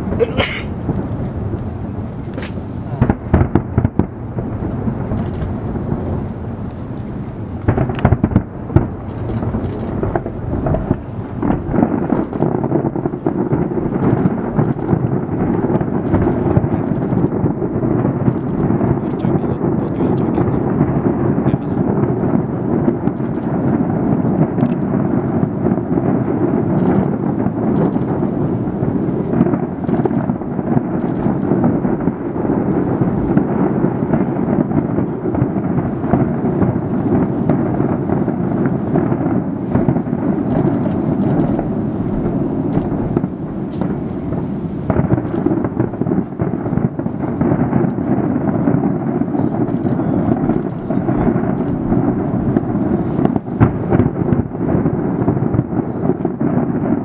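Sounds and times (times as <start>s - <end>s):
distant fireworks rumble: 0.0s - 57.0s
fireworks crackles: 0.0s - 57.0s
sharp fireworks bangs: 0.0s - 57.0s.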